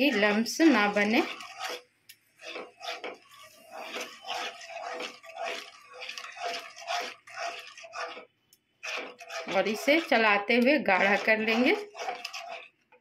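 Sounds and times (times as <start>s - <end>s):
wooden spatula stirring wet mixture: 0.0s - 13.0s.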